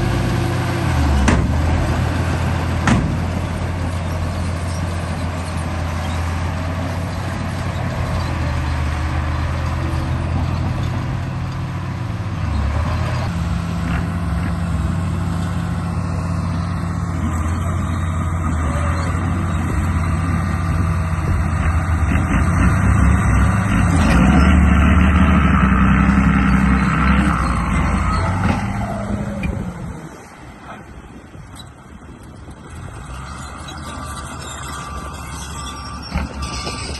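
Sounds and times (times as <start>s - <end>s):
remote-control bulldozer engine drone: 0.0s - 36.9s.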